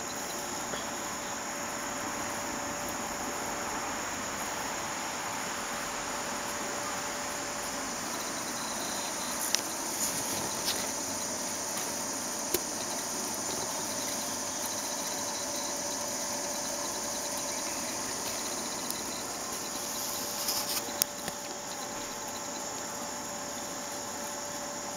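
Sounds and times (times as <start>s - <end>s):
insect chorus chirring: 0.0s - 24.9s.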